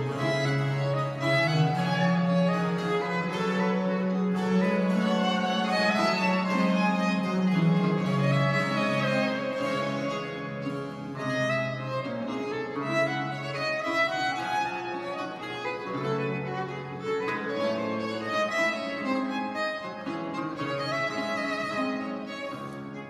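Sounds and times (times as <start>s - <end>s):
baroque chamber ensemble: 0.0s - 23.0s
violins playing quick melodies: 0.0s - 23.0s.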